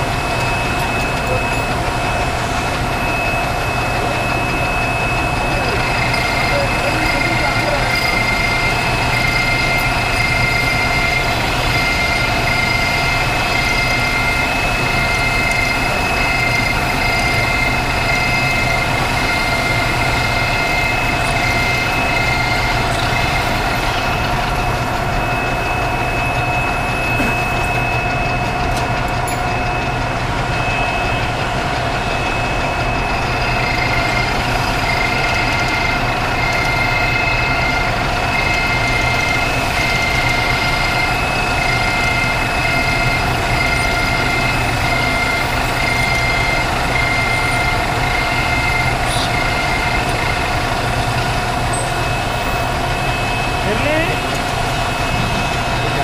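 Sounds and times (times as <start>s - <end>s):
high pulsing tone: 0.0s - 56.0s
metal lathe whining: 0.0s - 56.0s.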